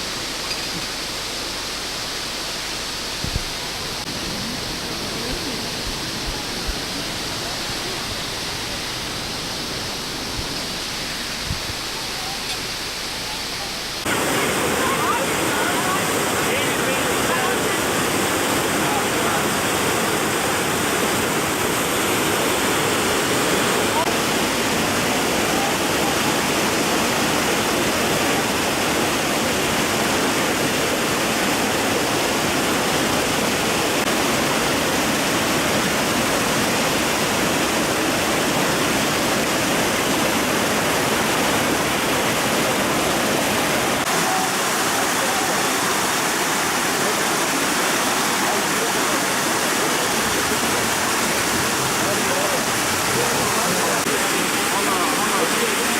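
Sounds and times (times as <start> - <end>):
waterfall roaring: 0.0 - 55.9.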